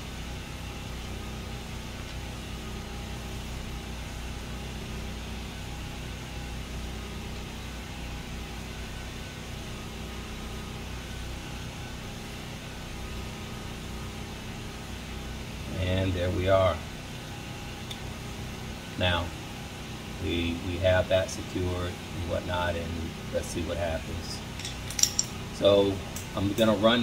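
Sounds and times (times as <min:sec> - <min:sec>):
generator engines droning: 0:00.0 - 0:27.0.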